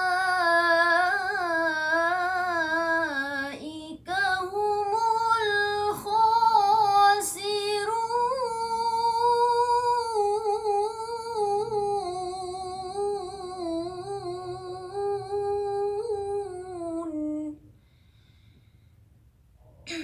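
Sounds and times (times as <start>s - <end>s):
girl reciting melismatic chant: 0.0s - 17.6s.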